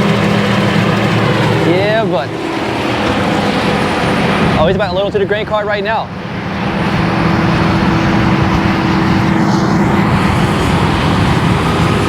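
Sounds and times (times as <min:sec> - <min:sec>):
farm machinery engines droning: 0:00.0 - 0:12.0.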